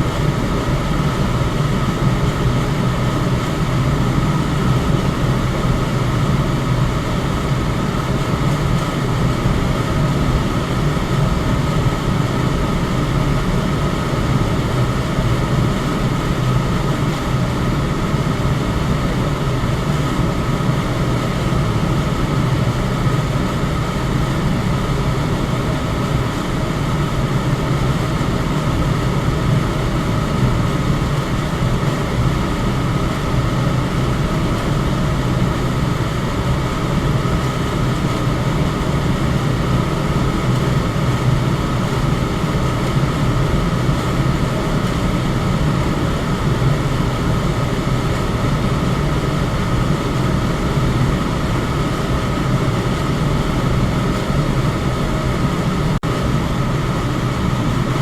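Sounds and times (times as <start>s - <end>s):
electric fan rushing air: 0.0s - 58.0s.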